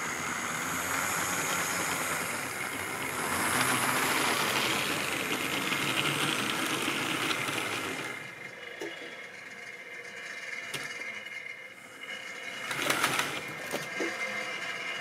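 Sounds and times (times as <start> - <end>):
model train whirring rattle: 0.0 - 15.0.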